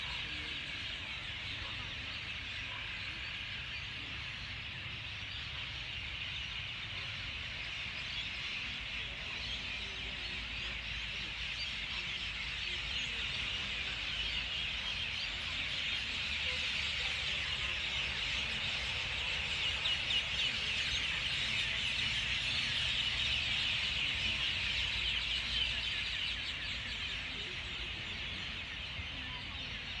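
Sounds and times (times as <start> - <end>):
many birds calling: 0.0 - 30.0.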